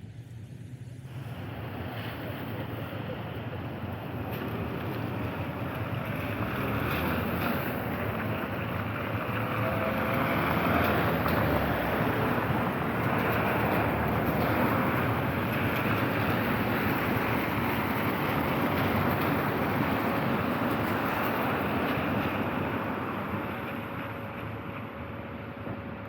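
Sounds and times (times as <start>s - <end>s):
vehicle engine noise: 0.0s - 26.0s
tyres hissing on wet road: 0.4s - 26.0s.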